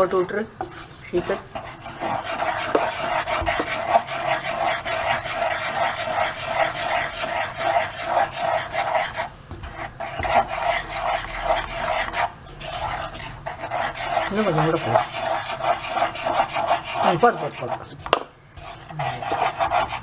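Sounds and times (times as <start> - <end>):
spoon scraping flour in saucepan: 0.0 - 20.0.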